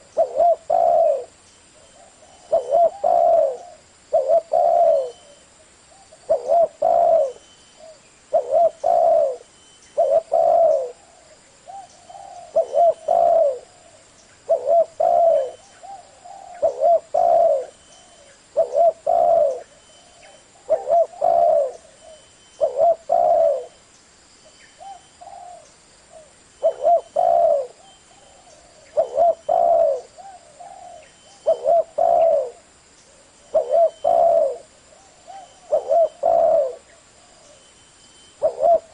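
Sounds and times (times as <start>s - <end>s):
dove cooing: 0.0s - 23.8s, 24.8s - 37.7s, 38.4s - 38.9s.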